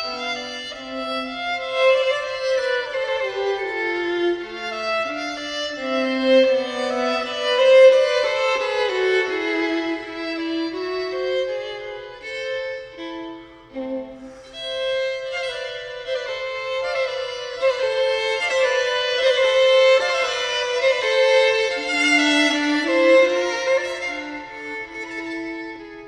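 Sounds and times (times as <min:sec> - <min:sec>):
violin duet: 0:00.0 - 0:26.0.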